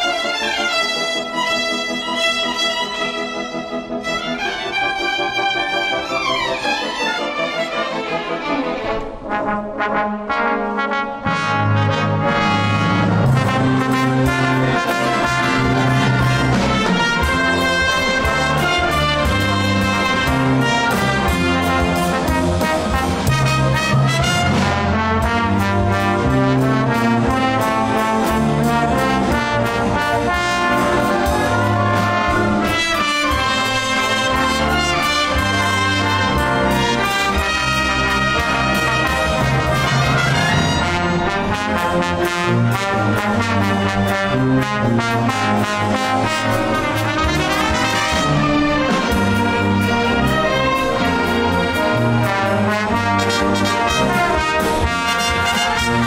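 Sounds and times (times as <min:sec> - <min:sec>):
symphony orchestra with brass: 0:00.0 - 0:56.0.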